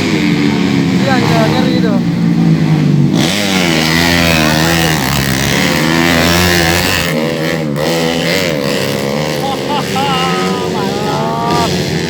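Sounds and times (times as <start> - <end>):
motorcycle passing close: 0.0 - 12.0
racing motorcycles revving: 0.0 - 12.0.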